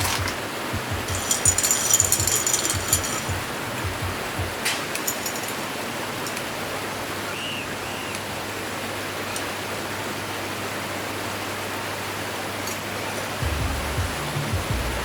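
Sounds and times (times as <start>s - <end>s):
stream water rushing: 0.0s - 1.7s, 3.2s - 15.0s.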